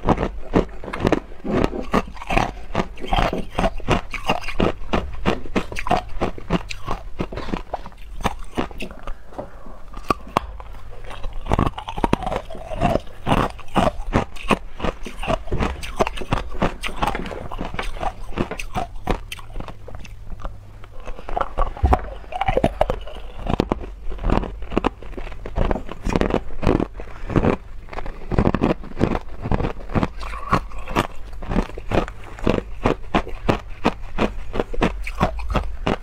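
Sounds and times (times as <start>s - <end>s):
ice crunching being chewed: 0.0s - 36.0s.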